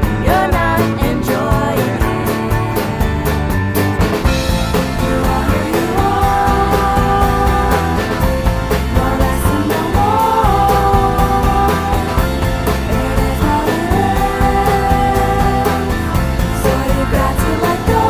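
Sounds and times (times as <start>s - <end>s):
rock music: 0.0s - 18.0s.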